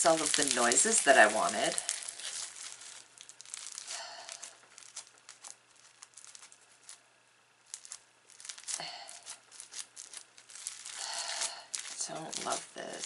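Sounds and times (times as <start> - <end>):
slime squished crackling: 0.0 - 7.0, 7.6 - 13.0.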